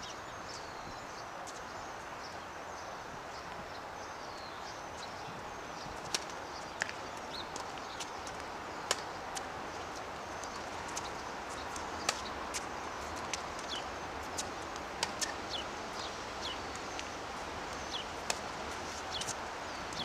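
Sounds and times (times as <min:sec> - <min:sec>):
birds chirping: 0:00.0 - 0:20.0
steady outdoor background noise: 0:00.0 - 0:20.0.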